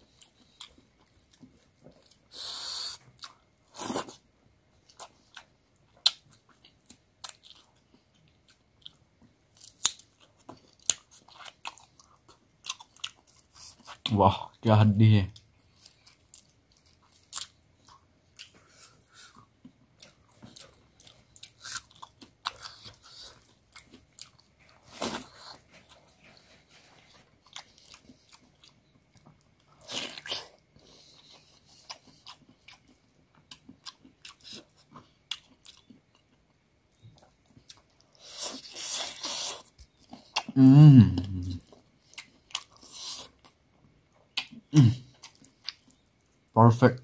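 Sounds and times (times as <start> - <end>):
chewing and biting food: 4.8 - 14.1, 15.4 - 40.6, 41.2 - 46.5.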